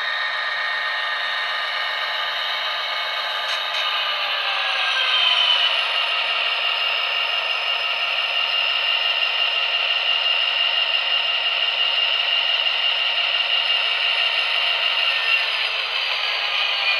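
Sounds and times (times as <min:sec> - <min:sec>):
model locomotive diesel engine sound: 0:00.0 - 0:16.9.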